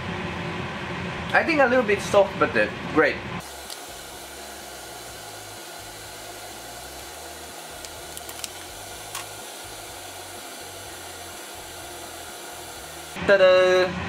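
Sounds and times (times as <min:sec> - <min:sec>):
fan whooshing: 0:00.0 - 0:13.2.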